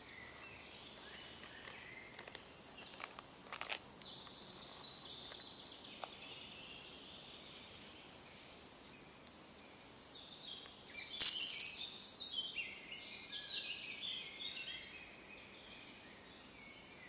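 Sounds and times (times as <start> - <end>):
faint outdoor background: 0.0 - 17.0
songbirds singing: 0.0 - 17.0.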